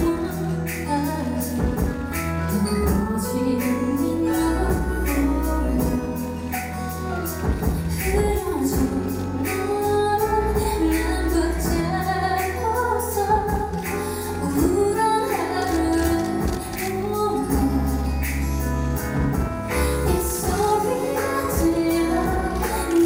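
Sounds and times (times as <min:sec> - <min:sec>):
woman singing into microphone: 0:00.0 - 0:23.0.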